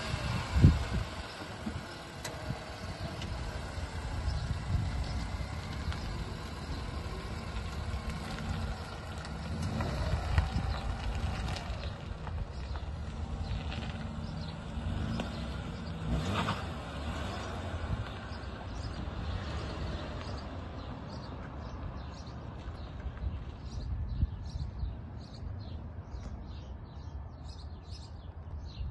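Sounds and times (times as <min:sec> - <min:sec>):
car engine and tyre noise: 0:00.0 - 0:28.9
small birds chirping: 0:00.6 - 0:16.3, 0:17.2 - 0:28.9.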